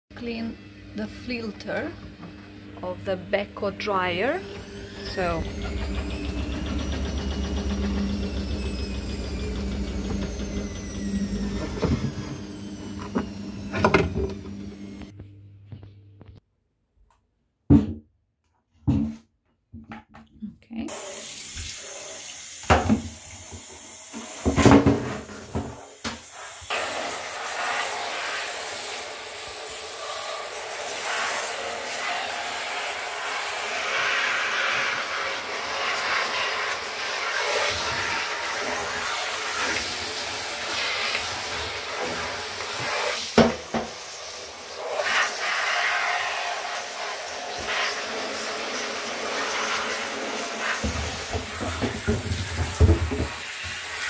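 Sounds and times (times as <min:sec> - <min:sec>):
shower water running into bathtub: 0:03.7 - 0:15.1, 0:20.9 - 0:54.0.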